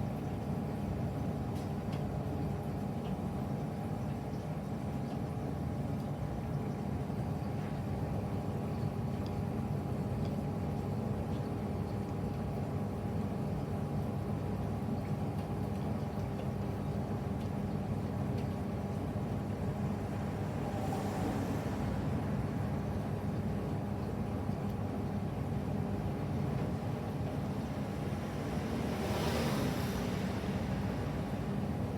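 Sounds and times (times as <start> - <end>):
washing machine motor hum: 0.1 - 31.9.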